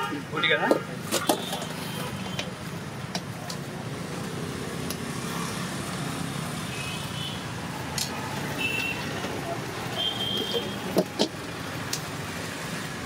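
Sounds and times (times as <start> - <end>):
roadside traffic: 0.0 - 13.0.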